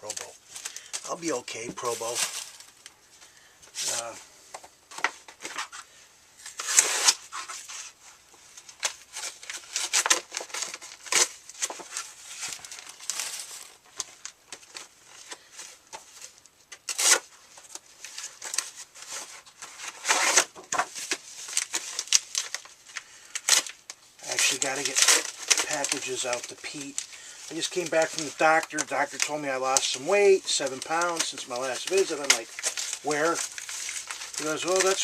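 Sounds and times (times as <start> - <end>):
packaging tearing and crinkling: 6.4 - 35.0.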